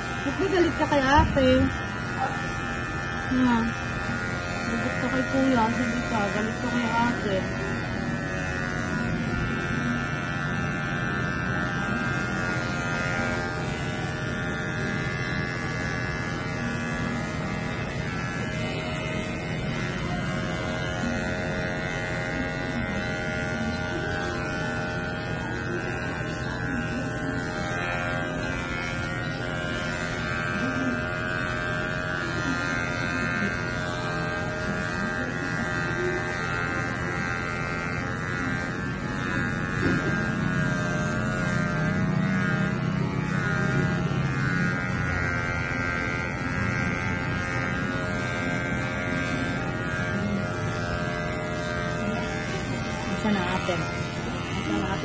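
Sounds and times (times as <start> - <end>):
electric hair clippers buzzing: 0.0 - 55.0.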